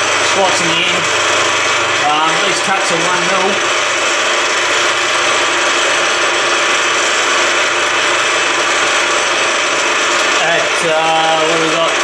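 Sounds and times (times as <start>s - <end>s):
cutting chatter: 0.0s - 12.0s
end mill cutting metal: 0.0s - 12.0s
spindle running: 0.0s - 12.0s.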